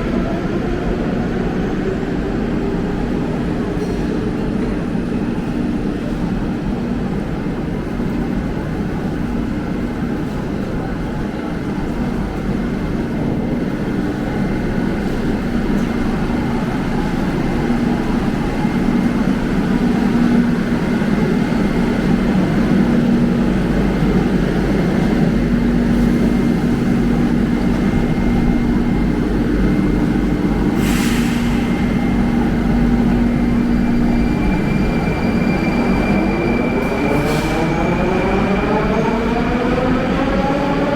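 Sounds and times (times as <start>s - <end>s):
metro train rumbling: 0.0s - 40.9s.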